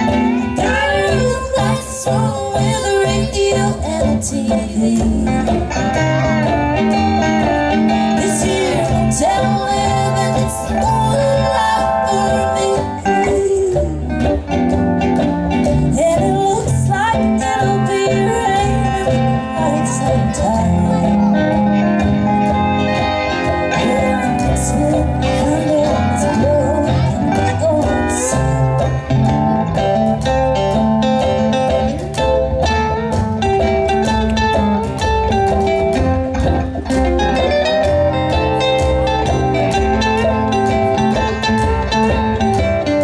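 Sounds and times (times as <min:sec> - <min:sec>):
guitar: 0:00.0 - 0:43.0
mandolin: 0:00.0 - 0:43.0
upright bass: 0:00.0 - 0:43.0.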